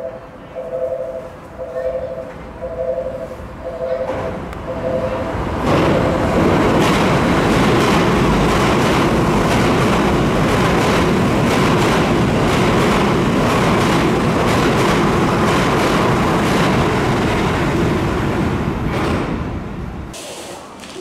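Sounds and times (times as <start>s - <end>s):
train wheels rushing on rail: 3.6s - 20.8s.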